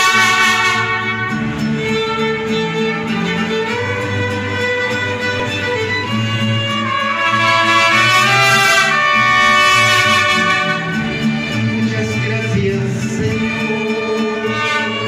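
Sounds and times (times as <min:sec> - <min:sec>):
mariachi band playing: 0:00.0 - 0:15.0
violins playing melody: 0:00.0 - 0:15.0.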